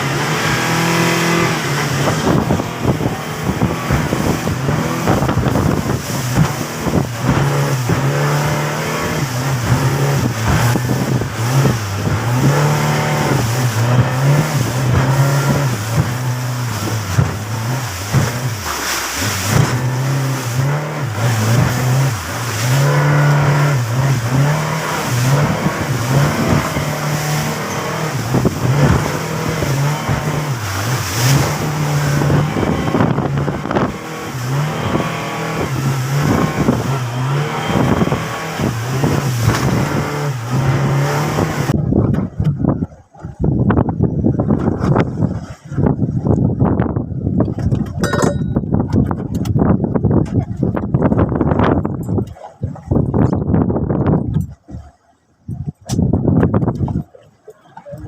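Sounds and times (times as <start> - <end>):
boat engine running: 0.0 - 58.0
water noise: 0.0 - 58.0
wind: 0.0 - 58.0.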